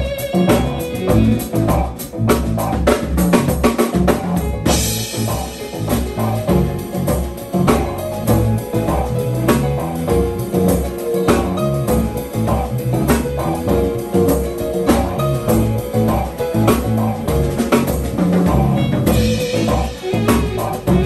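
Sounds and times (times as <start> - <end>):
drum kit steady beat: 0.0 - 21.0
electric bass lines: 0.0 - 21.0
held keyboard chords: 0.0 - 21.0.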